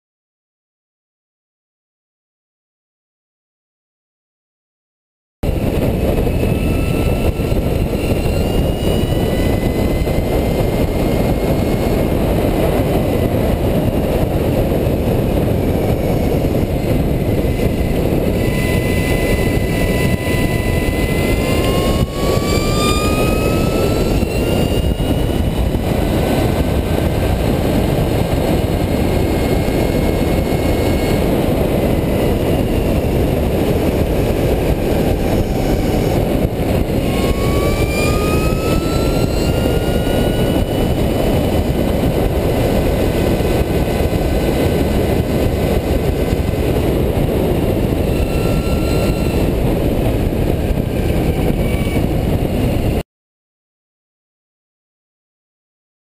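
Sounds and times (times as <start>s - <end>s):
wind rushing on microphone: 5.4s - 53.0s
electric motor whine: 5.5s - 53.0s.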